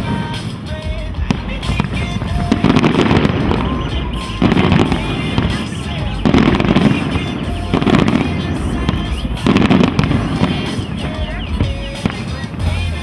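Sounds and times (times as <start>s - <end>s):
fireworks booms: 0.0s - 13.0s
fireworks crackling and popping: 0.0s - 13.0s.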